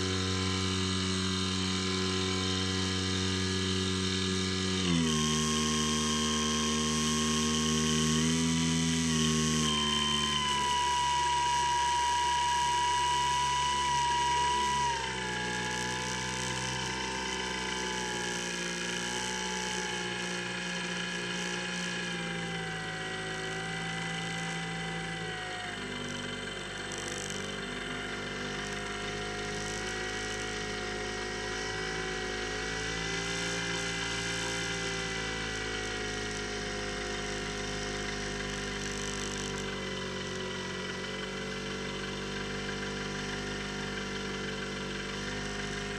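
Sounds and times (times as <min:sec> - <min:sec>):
electric motor and propeller whine: 0:00.0 - 0:45.9.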